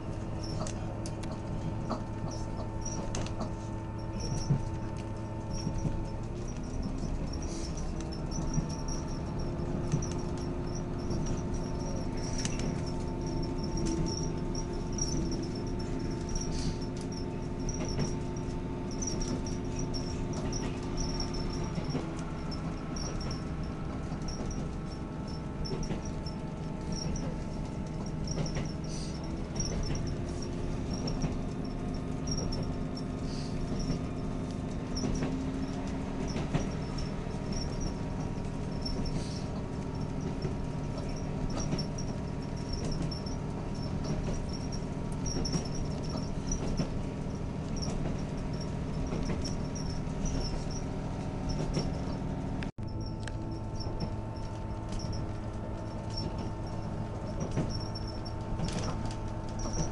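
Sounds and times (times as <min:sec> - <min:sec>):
train engine hum: 0:00.0 - 0:59.9
high squeaks: 0:01.8 - 0:59.9.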